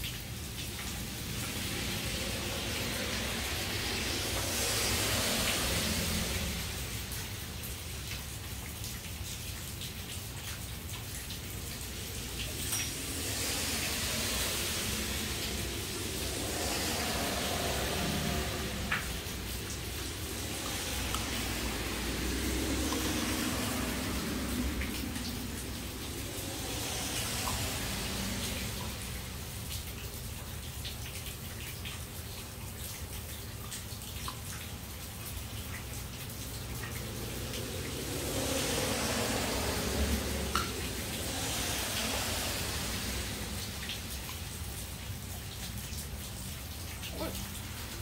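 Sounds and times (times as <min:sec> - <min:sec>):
small ticks and drips: 0:00.0 - 0:48.0
water running and splashing: 0:00.0 - 0:48.0.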